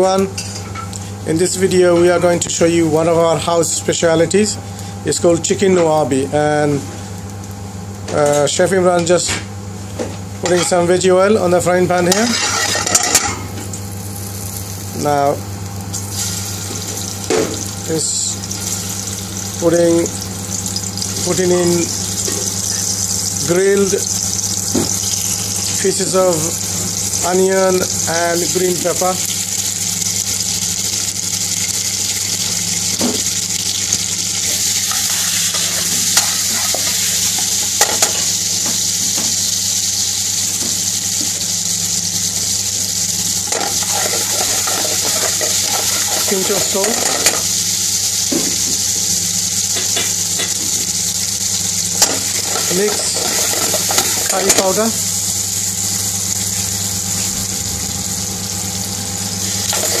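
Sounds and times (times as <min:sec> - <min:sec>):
steady low hum: 0:00.0 - 1:00.0
oil sizzling in a frying pan: 0:11.5 - 1:00.0.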